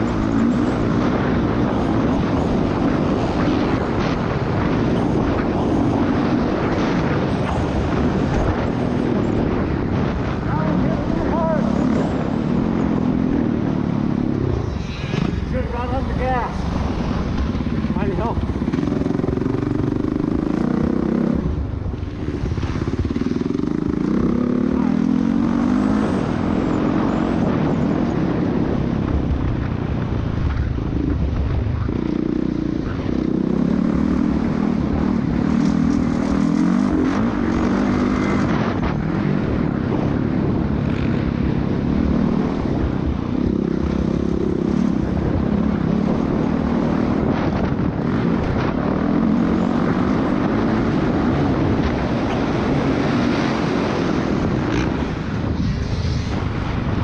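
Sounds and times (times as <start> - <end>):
dirt bike engine revving: 0.0 - 28.8, 30.5 - 57.0.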